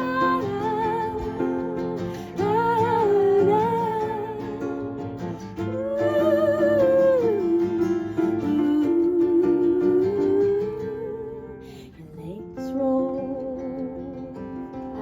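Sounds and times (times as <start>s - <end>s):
acoustic guitar chords: 0.0s - 15.0s
woman singing wordless melody: 0.0s - 15.0s.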